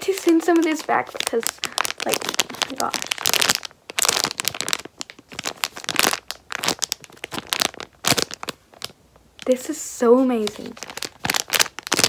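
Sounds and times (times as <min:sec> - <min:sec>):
packaging crinkling and rustling: 0:00.0 - 0:09.7, 0:10.3 - 0:12.0.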